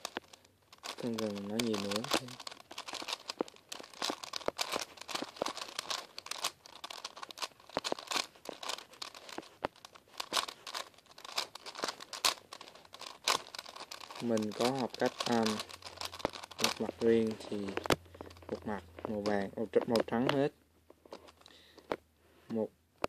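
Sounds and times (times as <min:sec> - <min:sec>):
plastic puzzle cube clicking: 0:00.0 - 0:20.4.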